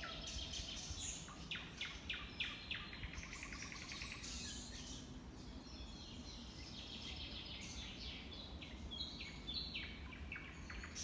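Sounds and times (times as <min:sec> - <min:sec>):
songbird singing clear notes: 0:00.0 - 0:11.0.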